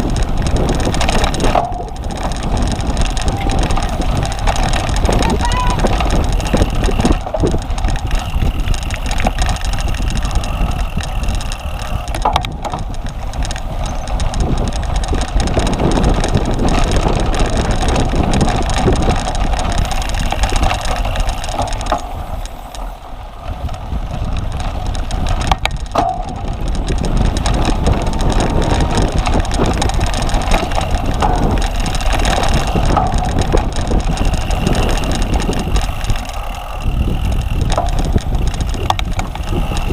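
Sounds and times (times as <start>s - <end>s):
bike rumbling and rattling: 0.0s - 39.9s
wind on microphone: 0.0s - 39.9s.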